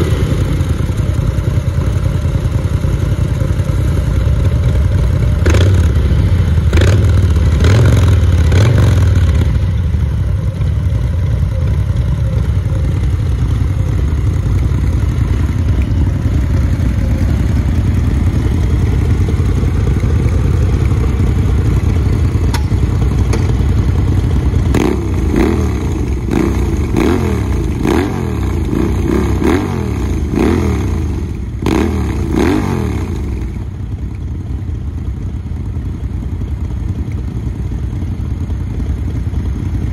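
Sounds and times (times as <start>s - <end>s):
motorcycle engine revving: 0.0s - 34.0s
motorcycle engines idling: 0.0s - 39.9s.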